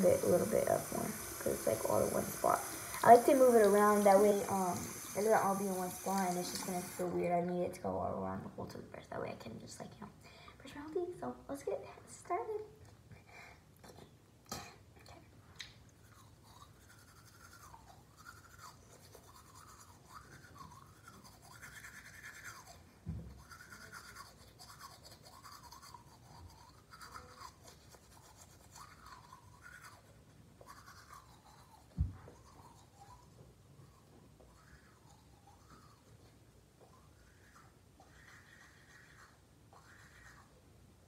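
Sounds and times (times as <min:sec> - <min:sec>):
toothbrush scrubbing teeth: 0:00.0 - 0:07.6, 0:12.8 - 0:40.7.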